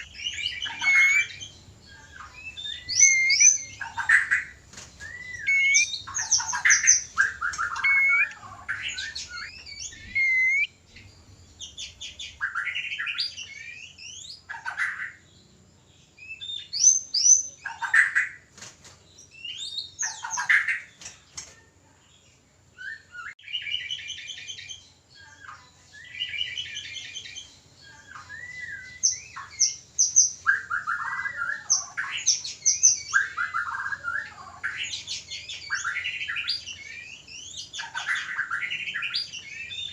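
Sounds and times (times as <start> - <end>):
songbird whistling and trilling: 0.0 - 15.2, 16.2 - 18.4, 19.2 - 20.9, 22.7 - 39.9.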